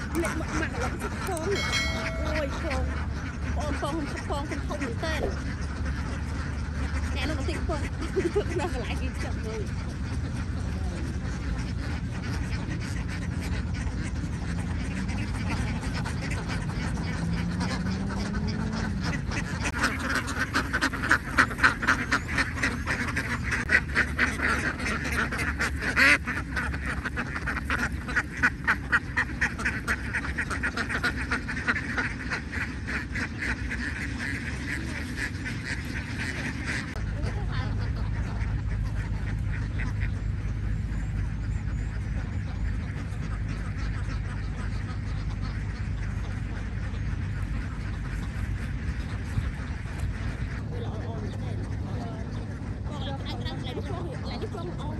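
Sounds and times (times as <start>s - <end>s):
ducks quacking: 0.0s - 54.9s
steady low hum: 0.0s - 54.9s.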